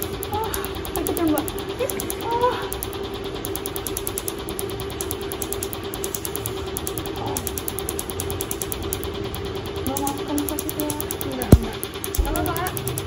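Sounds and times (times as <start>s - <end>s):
machine humming: 0.0s - 13.0s
rapid even ticking: 0.0s - 13.0s.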